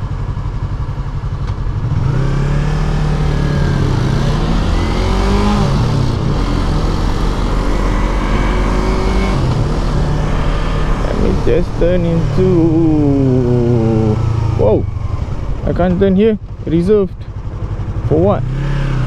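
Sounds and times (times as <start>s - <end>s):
motorcycle engine while riding: 0.0s - 19.0s.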